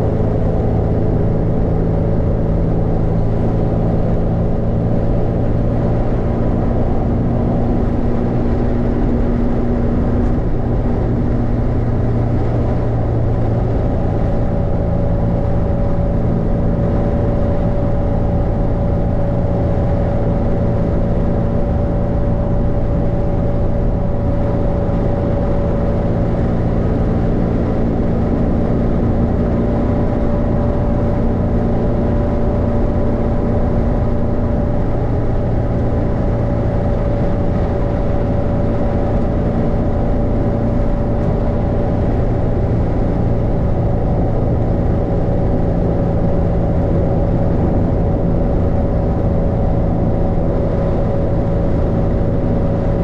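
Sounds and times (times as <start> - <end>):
engine and drivetrain hum: 0.0 - 53.0
road and tyre noise: 0.0 - 53.0.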